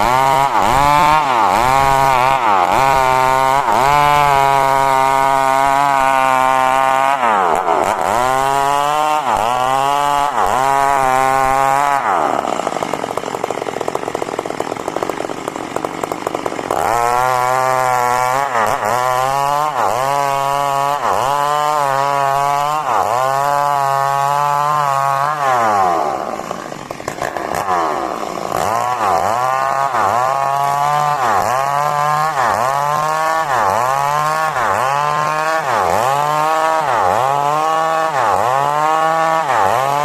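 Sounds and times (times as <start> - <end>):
chainsaw sawing wood: 0.0 - 40.0.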